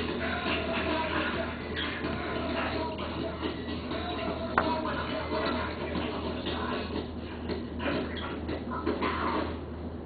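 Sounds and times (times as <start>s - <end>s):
faint music: 0.0s - 9.8s.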